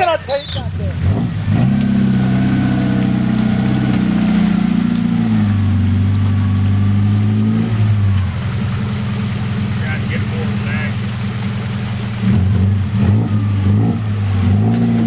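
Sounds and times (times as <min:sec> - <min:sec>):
engine revving under load: 0:00.0 - 0:15.0.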